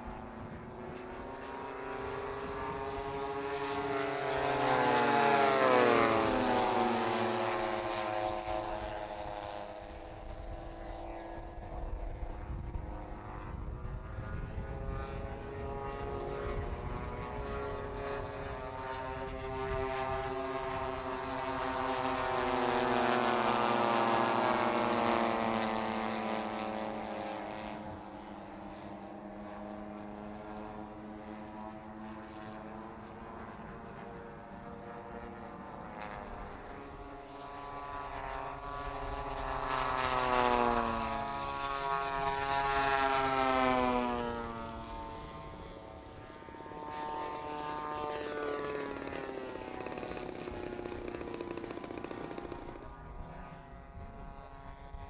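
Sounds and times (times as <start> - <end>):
model plane propeller engines droning: 0.0 - 55.0.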